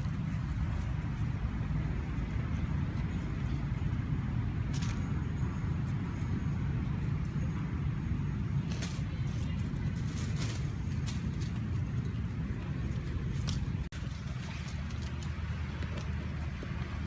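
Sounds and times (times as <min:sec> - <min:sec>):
dry leaves crackling: 0:00.0 - 0:17.0
steady low rumble: 0:00.0 - 0:17.0.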